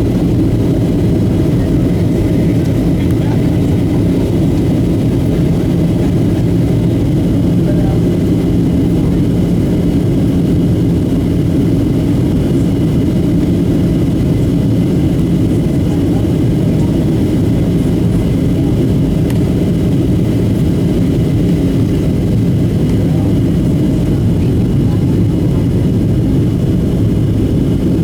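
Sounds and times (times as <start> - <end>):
airplane engines droning in cabin: 0.0 - 28.0.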